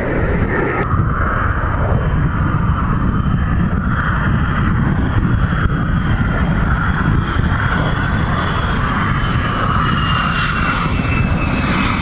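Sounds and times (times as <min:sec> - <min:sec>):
faint high jet whine: 0:00.0 - 0:12.0
jet engines rumbling in flight: 0:00.0 - 0:12.0.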